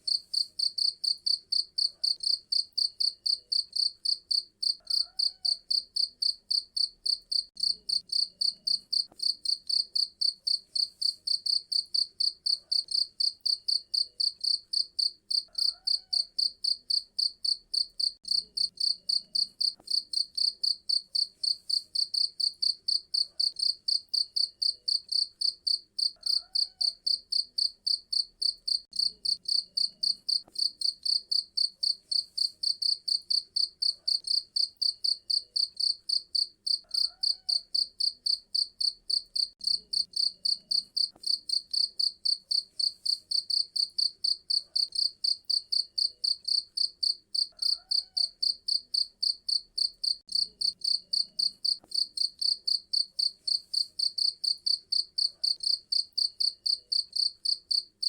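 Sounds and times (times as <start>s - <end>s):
cricket chirping: 0.1s - 57.8s.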